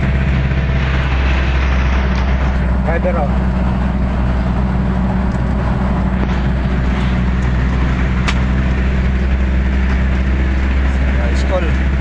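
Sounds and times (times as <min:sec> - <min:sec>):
van engine and road drone: 0:00.0 - 0:12.0.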